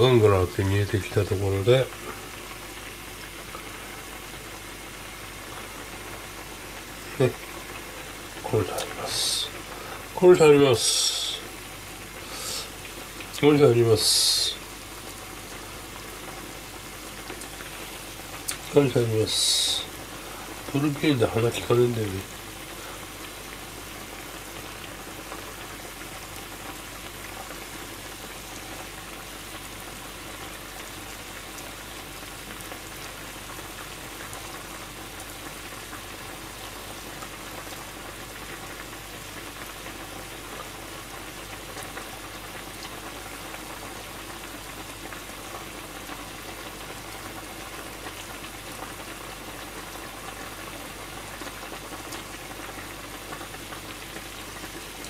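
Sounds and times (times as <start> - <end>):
broth boiling and bubbling: 0.0 - 55.0.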